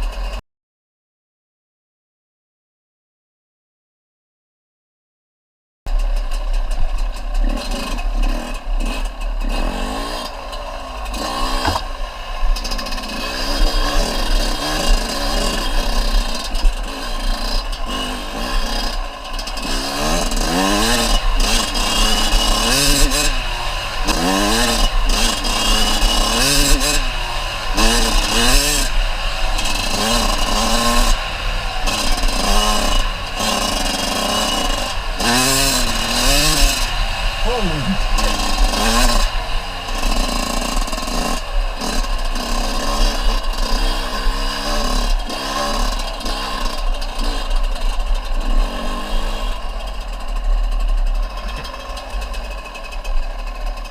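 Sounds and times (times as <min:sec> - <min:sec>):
dirt bike engine revving: 0:06.0 - 0:53.9.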